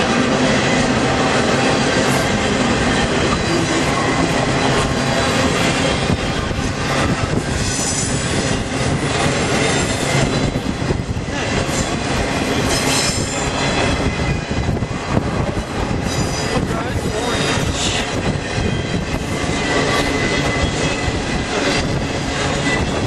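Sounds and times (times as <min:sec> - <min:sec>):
train cars rumbling and clattering: 0:00.0 - 0:23.0
train wheel squeal: 0:00.0 - 0:23.0.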